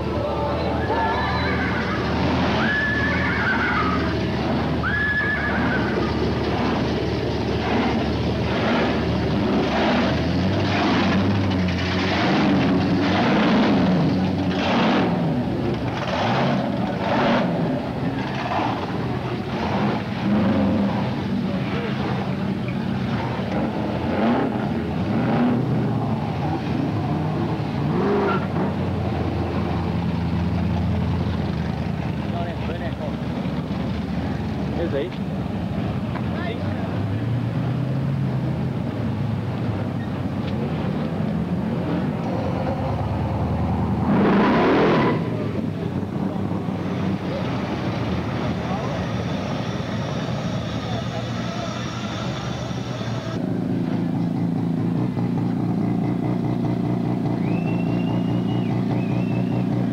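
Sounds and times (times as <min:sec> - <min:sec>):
car engines running low: 0:00.0 - 0:59.9.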